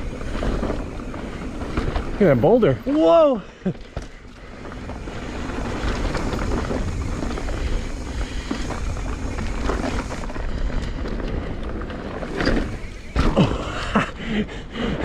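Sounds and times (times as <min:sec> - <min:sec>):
bike rattling over rocks: 0:00.0 - 0:14.2
bike tyre and wind noise: 0:00.0 - 0:15.0.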